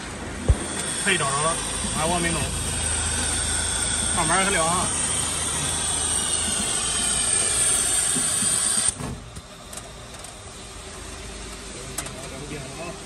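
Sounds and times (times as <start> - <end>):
machine whine and hiss: 0.0 - 13.0.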